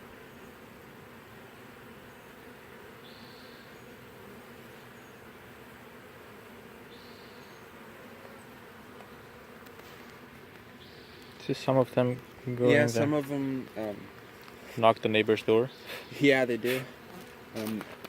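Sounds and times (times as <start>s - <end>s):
bee swarm buzzing: 0.0s - 18.0s.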